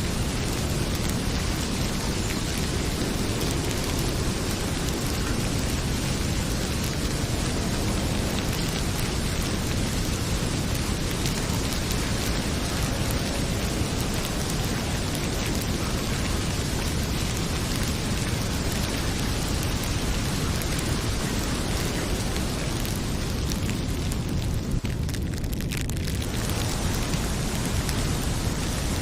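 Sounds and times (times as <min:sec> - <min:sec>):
heavy rain pouring: 0:00.0 - 0:29.0
wood fire crackling: 0:00.0 - 0:29.0.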